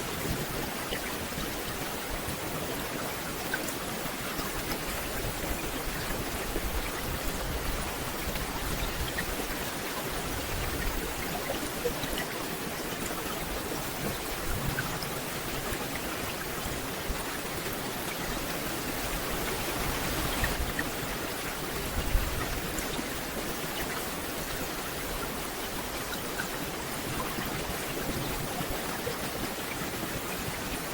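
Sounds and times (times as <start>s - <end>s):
rain on forest canopy: 0.0s - 30.9s.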